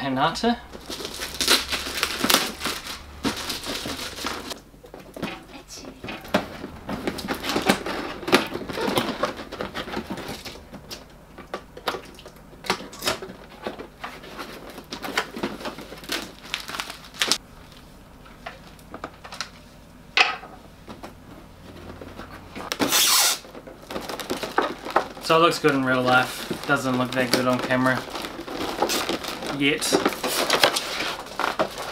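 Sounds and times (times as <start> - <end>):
packaging rustling: 0.7 - 19.7, 20.9 - 31.9.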